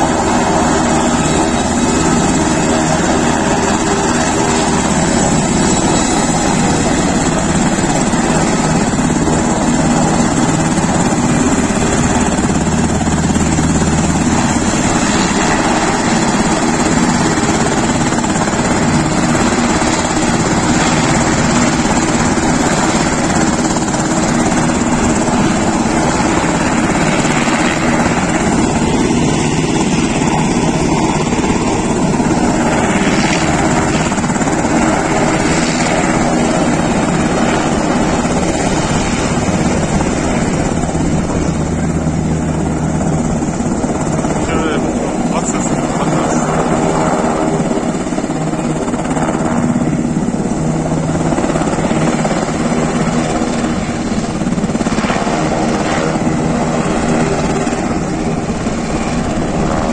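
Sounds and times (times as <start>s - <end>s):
aircraft engine running: 0.0s - 59.9s.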